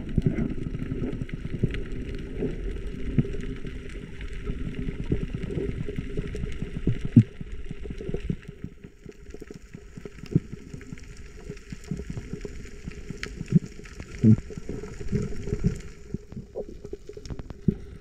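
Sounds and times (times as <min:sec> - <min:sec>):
muffled water sloshing and bubbling: 0:00.0 - 0:18.0.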